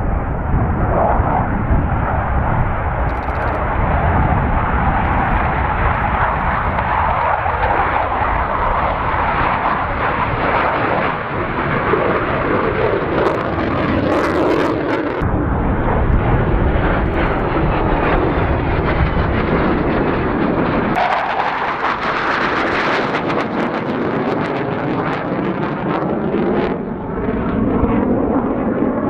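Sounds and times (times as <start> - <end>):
jet roar: 0.0 - 29.0.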